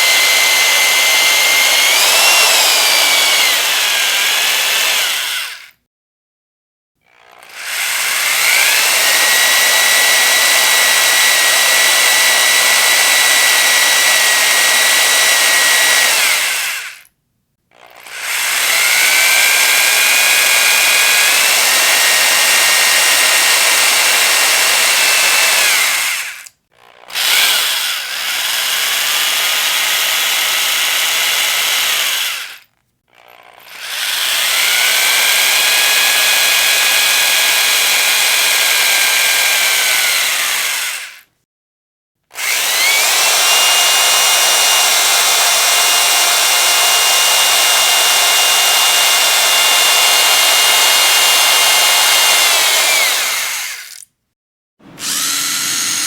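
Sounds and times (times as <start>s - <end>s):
power drill motor whining: 0.0s - 5.8s, 7.1s - 17.1s, 17.7s - 41.3s, 42.3s - 54.1s, 54.8s - 56.0s.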